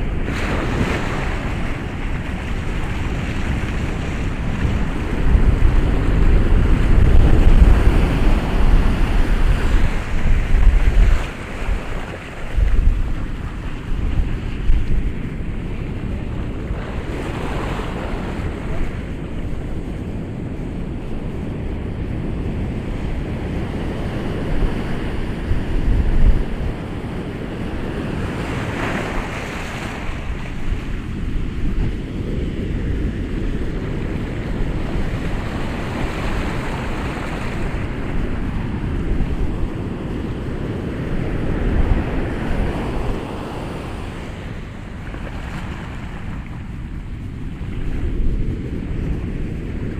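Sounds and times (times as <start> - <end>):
ocean waves breaking on shore: 0.0 - 49.9.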